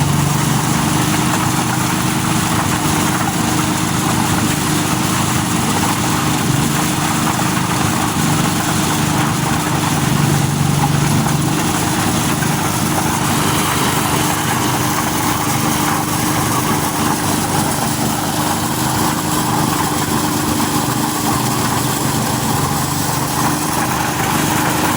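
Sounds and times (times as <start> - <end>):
corn sheller hissing: 0.0 - 24.9
engine hum: 0.0 - 24.9.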